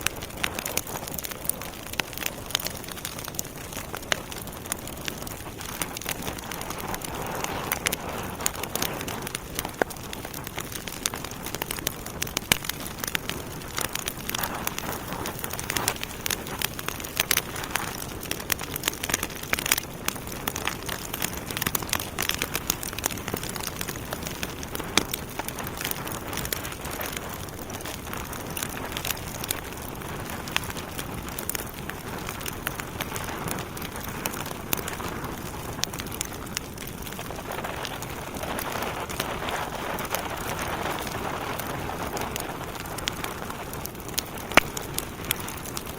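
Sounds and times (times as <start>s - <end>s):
hiss of flames: 0.0s - 45.8s
logs crackling and popping: 0.0s - 45.9s.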